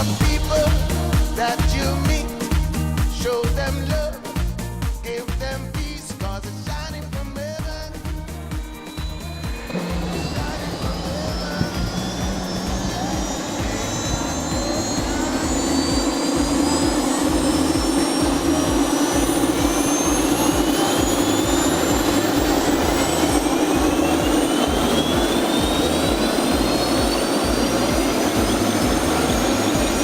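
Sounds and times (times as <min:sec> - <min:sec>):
helicopter rotor drone: 0:00.0 - 0:05.8, 0:07.7 - 0:30.0
helicopter turbine whine: 0:00.0 - 0:06.0, 0:06.9 - 0:30.0.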